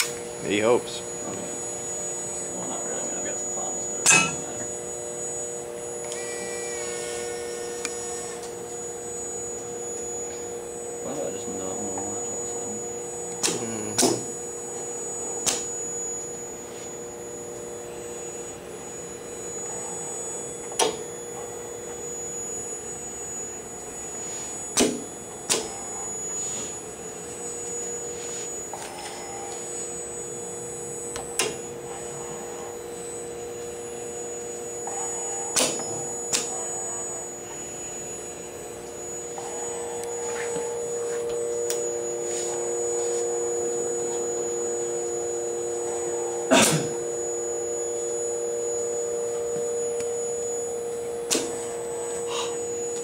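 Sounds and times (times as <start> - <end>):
robot arm humming: 0.0 - 53.0.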